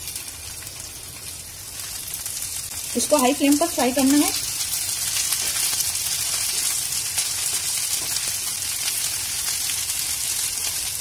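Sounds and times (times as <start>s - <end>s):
okra sizzling in oil: 0.0s - 11.0s
spatula turning food in pan: 0.0s - 11.0s.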